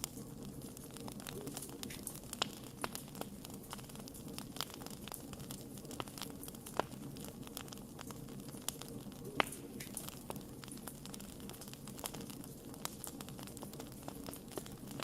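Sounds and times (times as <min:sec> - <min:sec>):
loud fire pops: 0:00.0 - 0:15.0
low rumble of burning: 0:00.0 - 0:15.0
wood fire crackling: 0:00.0 - 0:15.0.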